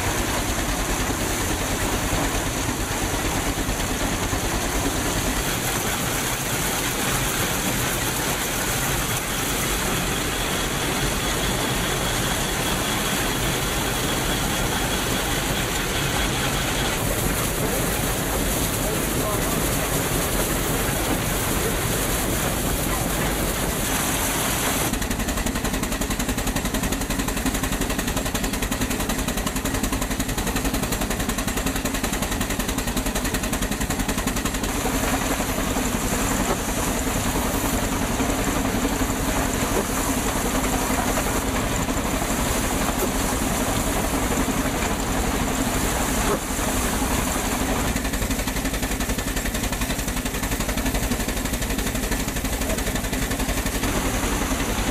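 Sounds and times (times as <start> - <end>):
threshing machine running: 0.0 - 54.9.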